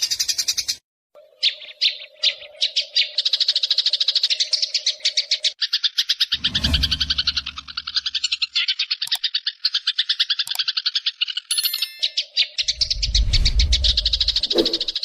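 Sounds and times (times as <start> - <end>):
bird chirping trill: 0.0 - 15.0.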